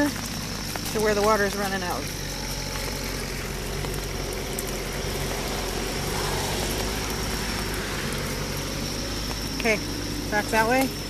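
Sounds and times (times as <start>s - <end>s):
pump humming: 0.0s - 11.0s
water running from a hose: 0.0s - 11.0s.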